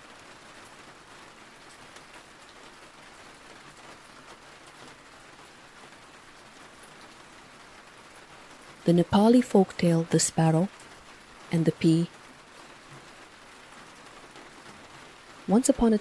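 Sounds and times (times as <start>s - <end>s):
soft rain hiss: 0.0s - 16.0s.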